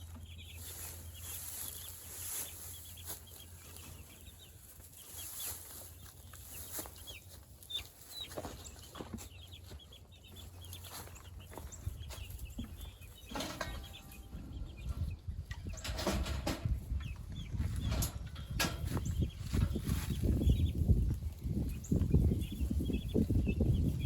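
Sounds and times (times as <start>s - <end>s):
chickens clucking and peeping: 0.0s - 24.0s.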